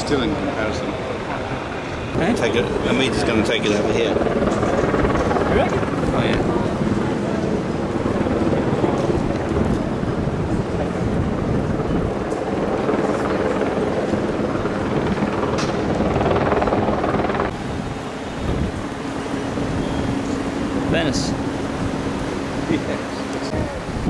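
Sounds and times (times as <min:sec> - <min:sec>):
steady mechanical drone: 0:00.0 - 0:24.0.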